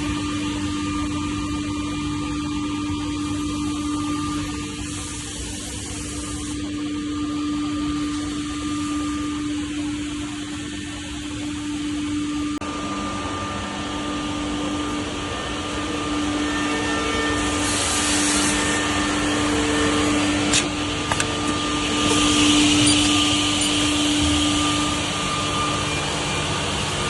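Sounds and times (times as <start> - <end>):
machine motor hum: 0.0 - 27.0.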